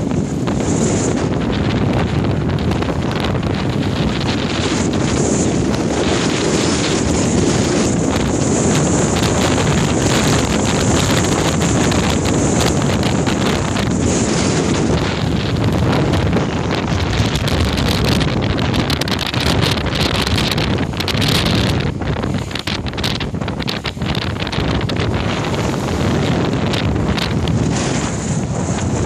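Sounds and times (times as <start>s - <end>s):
choppy lake water splashing: 0.0s - 29.0s
strong wind on microphone: 0.0s - 29.0s.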